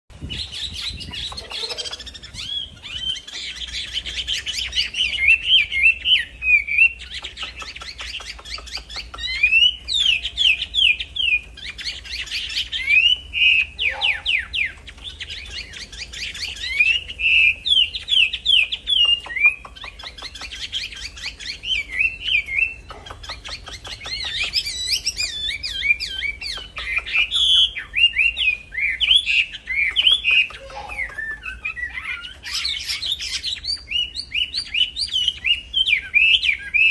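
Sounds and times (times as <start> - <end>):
songbird chirping and whistling: 0.1 - 36.9.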